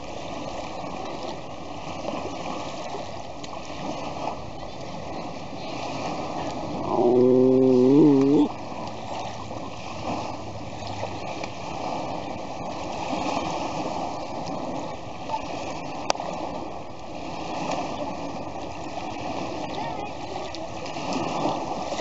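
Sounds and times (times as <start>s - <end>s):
lake waves lapping on shore: 0.0s - 22.0s.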